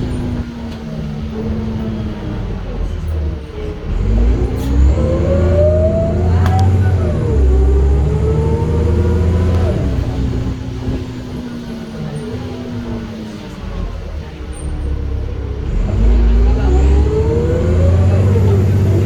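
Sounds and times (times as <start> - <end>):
bus engine and transmission whine: 0.0 - 19.0.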